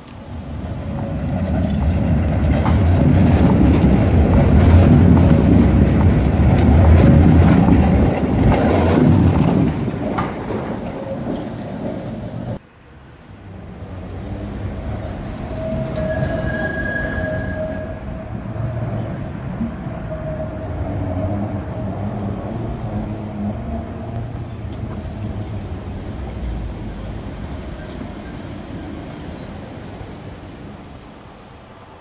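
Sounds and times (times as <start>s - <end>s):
tram rumbling on rails: 0.0s - 32.0s
thin steady rail squeal: 0.4s - 12.6s, 13.2s - 31.6s.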